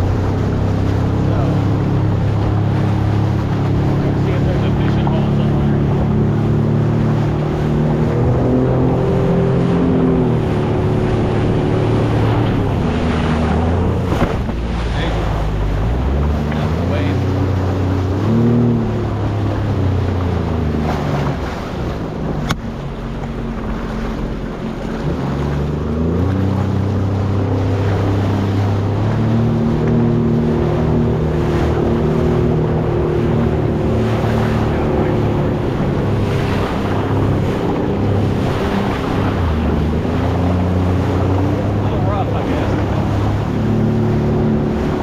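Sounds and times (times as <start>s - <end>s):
motorboat engine running: 0.0s - 45.0s
rushing water: 0.0s - 45.0s
wind buffeting microphone: 0.0s - 45.0s.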